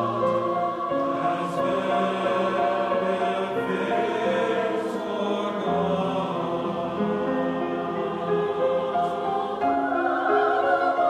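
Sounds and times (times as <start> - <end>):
choir singing sustained notes: 0.0 - 11.0.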